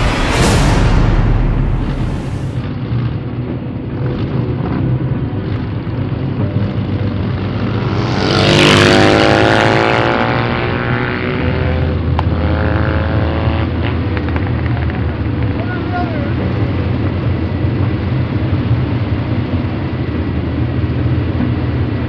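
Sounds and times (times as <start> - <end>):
motorcycle engines droning: 2.6 - 22.0.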